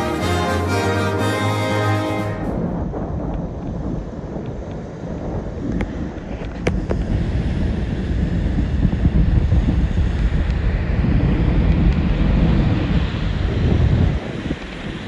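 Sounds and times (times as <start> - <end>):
wind buffeting microphone: 2.3 - 15.0.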